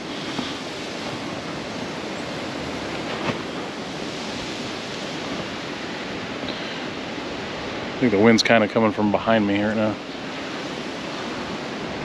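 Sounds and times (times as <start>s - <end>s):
wind noise on microphone: 0.0s - 12.0s
wind rushing through trees: 0.0s - 12.0s.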